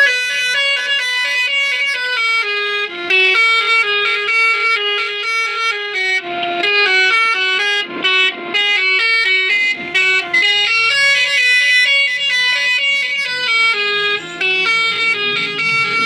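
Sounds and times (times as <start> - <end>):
musical horn playing melody: 0.0 - 5.6, 6.9 - 16.0.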